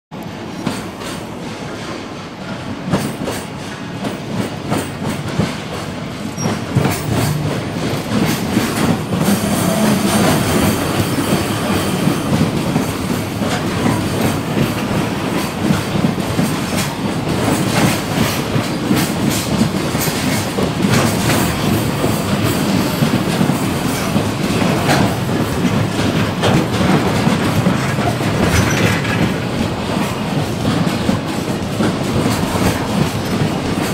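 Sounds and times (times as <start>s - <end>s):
train wheels clicking over rail joints: 0.2s - 33.9s.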